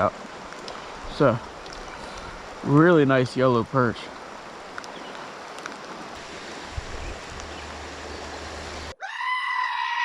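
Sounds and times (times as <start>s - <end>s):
rain: 0.0s - 9.0s
river noise: 0.0s - 10.0s.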